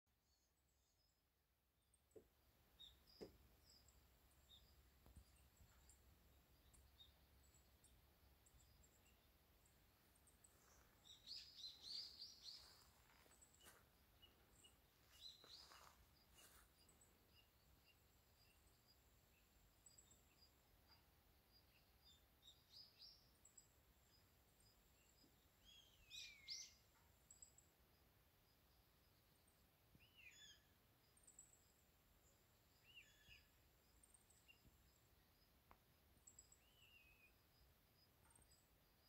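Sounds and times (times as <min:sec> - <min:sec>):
bird chirps: 0:01.8 - 0:28.0, 0:29.0 - 0:39.0.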